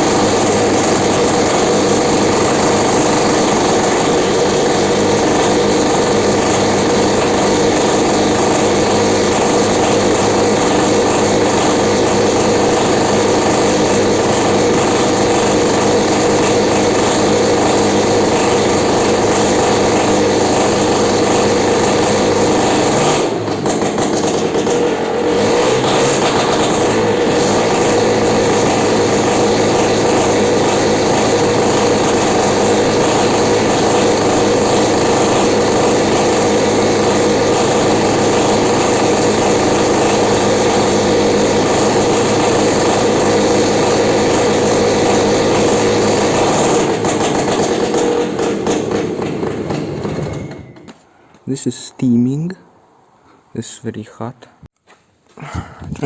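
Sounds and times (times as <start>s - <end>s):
tractor engine running: 0.0s - 52.5s.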